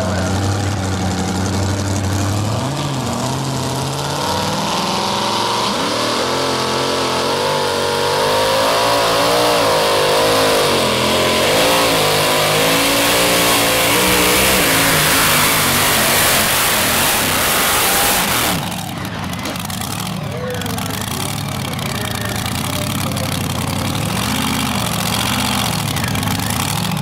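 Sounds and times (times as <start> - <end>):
supercharged truck engine revving: 0.0 - 27.0.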